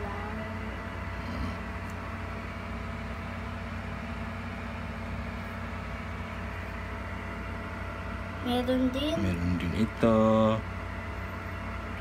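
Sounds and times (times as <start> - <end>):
small motor humming and whirring: 0.0 - 12.0.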